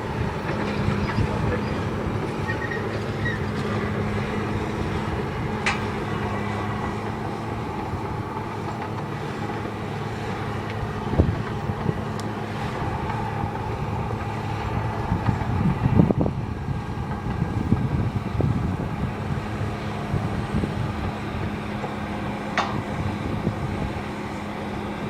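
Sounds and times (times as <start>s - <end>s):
bulldozer diesel engine under load: 0.0s - 25.0s.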